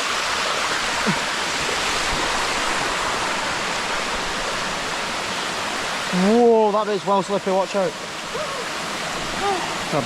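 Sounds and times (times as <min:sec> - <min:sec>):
waterfall cascading over rock: 0:00.0 - 0:10.0.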